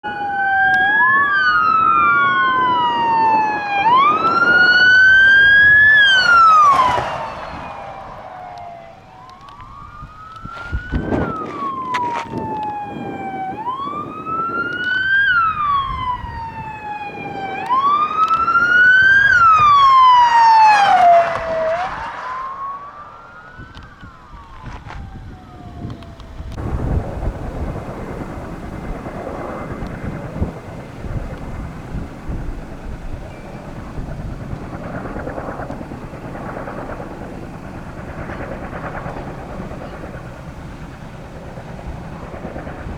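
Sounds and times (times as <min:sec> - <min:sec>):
emergency vehicle sirens wailing: 0:00.0 - 0:42.9.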